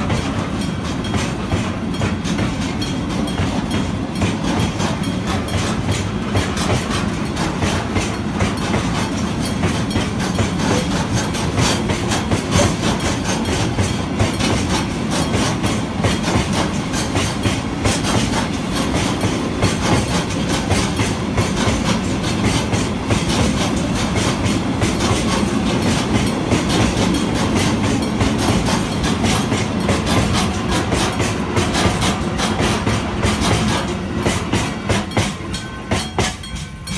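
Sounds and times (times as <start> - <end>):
wheels clattering over rail joints: 0.0 - 36.9.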